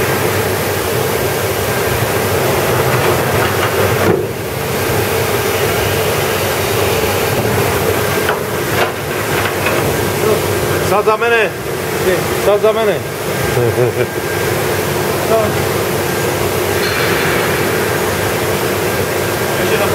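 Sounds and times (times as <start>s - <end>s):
industrial machinery hum: 0.0s - 19.9s.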